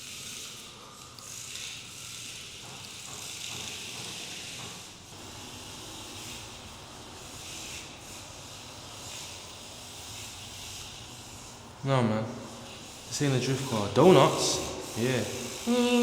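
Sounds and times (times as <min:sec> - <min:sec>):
rc car motor hissing: 0:00.0 - 0:16.0.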